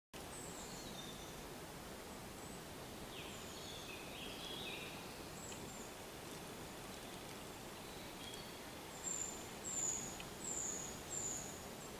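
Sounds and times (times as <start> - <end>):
faint steady hiss: 0.2 - 11.9
songbirds chirping: 0.2 - 11.9.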